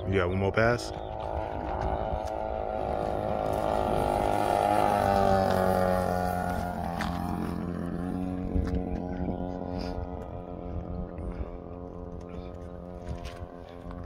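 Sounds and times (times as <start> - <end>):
model plane engine drone: 0.0 - 14.0.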